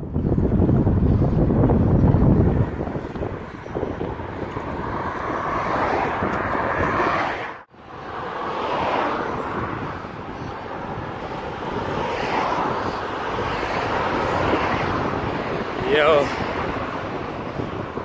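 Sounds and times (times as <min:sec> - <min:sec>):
road traffic: 0:00.0 - 0:18.0
wind rushing over microphone: 0:00.0 - 0:18.0.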